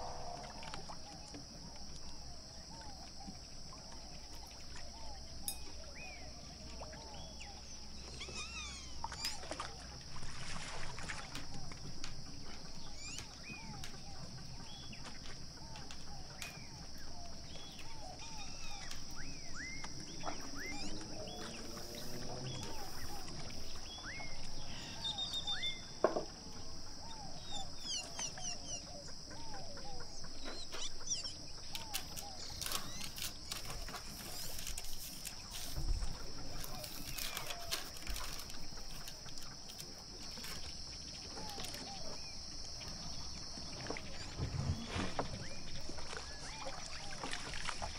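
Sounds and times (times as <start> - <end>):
small birds chirping: 2.1 - 9.8, 12.5 - 47.6.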